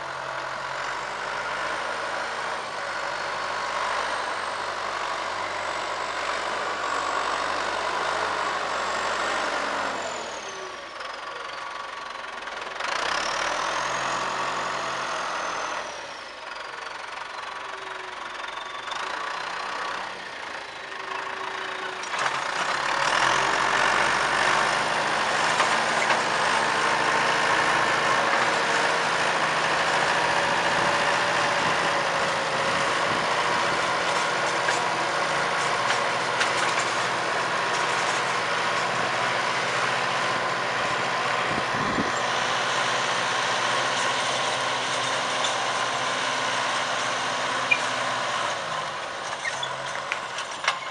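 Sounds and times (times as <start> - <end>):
tractor diesel engine under load: 0.0 - 50.9.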